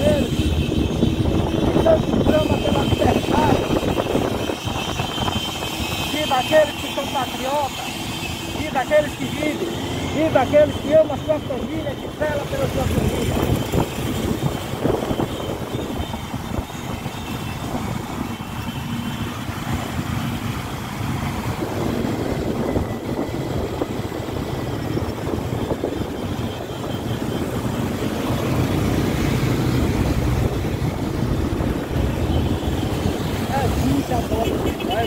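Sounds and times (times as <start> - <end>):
many motorcycle engines running: 0.0 - 35.0.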